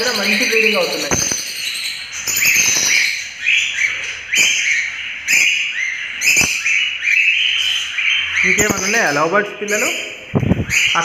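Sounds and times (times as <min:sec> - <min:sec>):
parrots chirping: 0:00.0 - 0:11.0.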